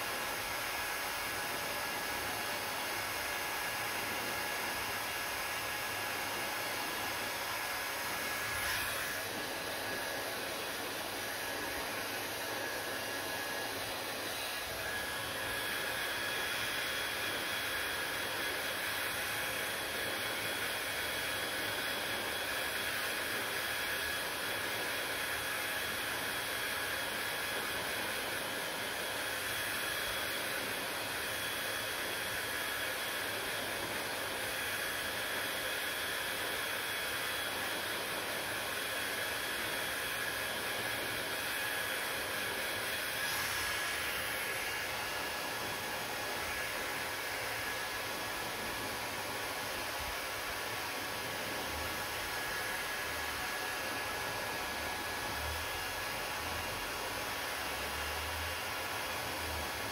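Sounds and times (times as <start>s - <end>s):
hair dryer blowing air: 0.0s - 59.9s
hair dryer motor whine: 0.0s - 59.9s.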